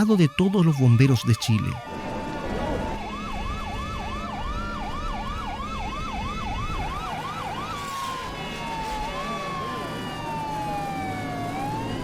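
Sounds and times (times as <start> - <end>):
fire engine siren yelping: 0.0 - 12.0.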